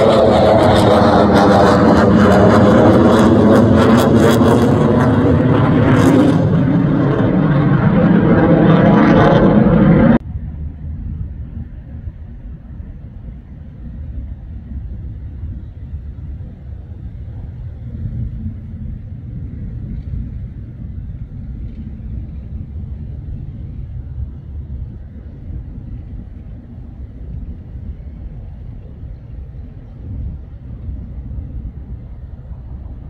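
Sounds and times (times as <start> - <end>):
turboprop plane engines rumbling: 0.0 - 33.0.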